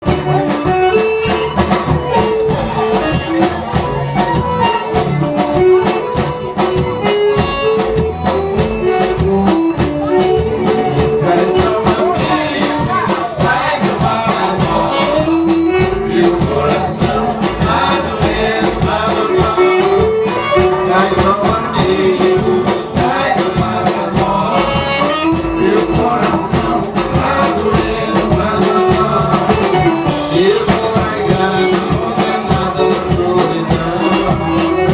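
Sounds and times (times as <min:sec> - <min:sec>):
dance band playing upbeat song: 0:00.0 - 0:34.9.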